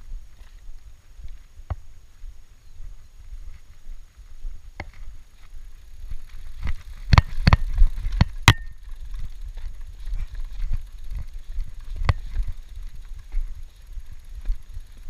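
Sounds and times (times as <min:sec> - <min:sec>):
bike clacking over rough ground: 0:00.0 - 0:15.0
mountain bike rolling on dirt trail: 0:00.0 - 0:15.0
wind and ground rumble: 0:00.0 - 0:15.0.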